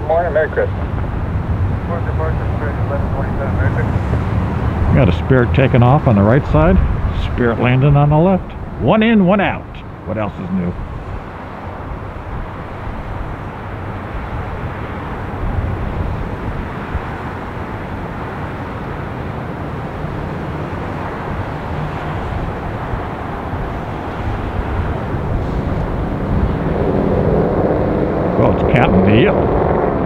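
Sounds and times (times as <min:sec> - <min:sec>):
jet engine rush: 0:00.0 - 0:30.0.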